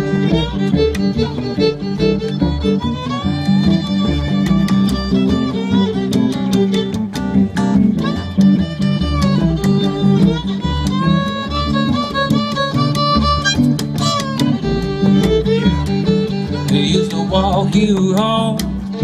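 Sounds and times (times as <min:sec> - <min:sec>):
fiddle melody with sliding notes: 0:00.0 - 0:19.0
plucked guitar: 0:00.0 - 0:19.0.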